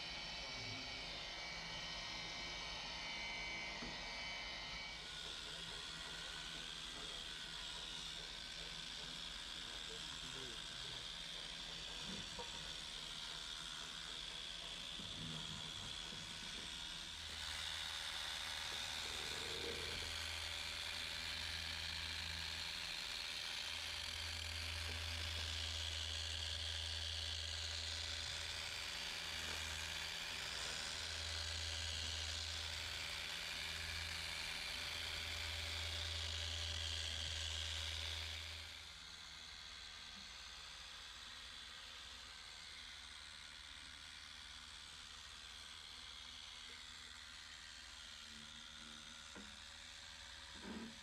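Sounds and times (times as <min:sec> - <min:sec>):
machine polisher motor whirring: 0:00.0 - 0:51.0.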